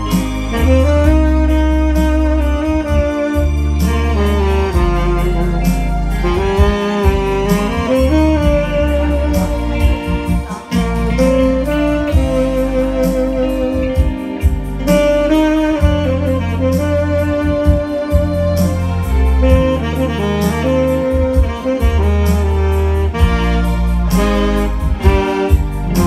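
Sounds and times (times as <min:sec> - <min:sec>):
bass: 0:00.0 - 0:26.0
drums: 0:00.0 - 0:26.0
piano: 0:00.0 - 0:26.0
saxophone jazz melody: 0:00.0 - 0:26.0.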